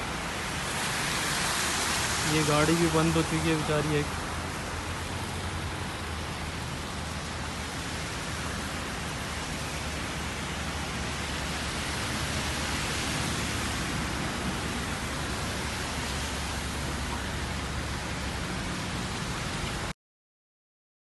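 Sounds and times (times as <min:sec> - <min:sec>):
cars passing on wet road: 0:00.0 - 0:19.9
rain hissing: 0:00.0 - 0:19.9.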